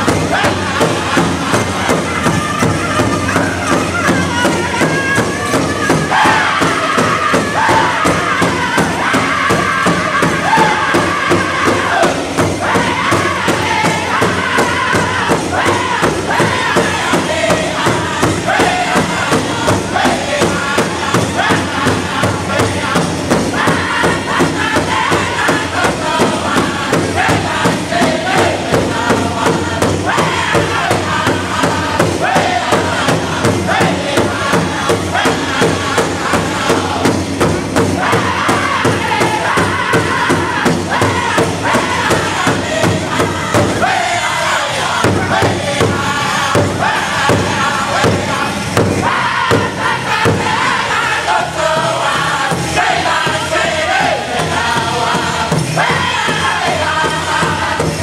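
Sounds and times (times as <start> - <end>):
group singing in high voices: 0.0 - 58.0
large drum beat: 0.0 - 58.0.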